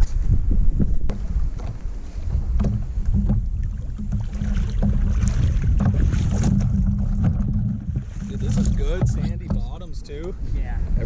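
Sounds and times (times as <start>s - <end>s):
wind buffeting microphone: 0.0s - 11.0s
water sloshing and lapping: 1.1s - 10.4s.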